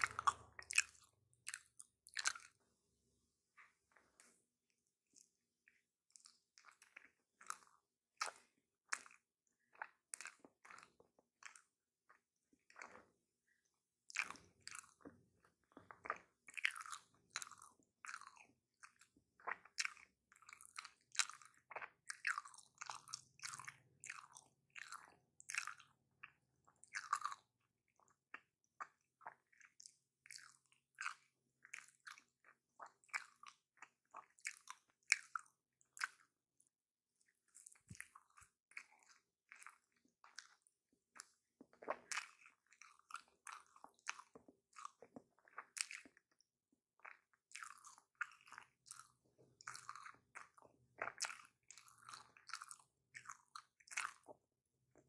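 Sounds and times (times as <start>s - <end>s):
close chewing with wet mouth clicks: 0.0s - 2.6s, 5.1s - 13.1s, 14.1s - 36.4s, 37.2s - 46.4s, 47.0s - 54.5s.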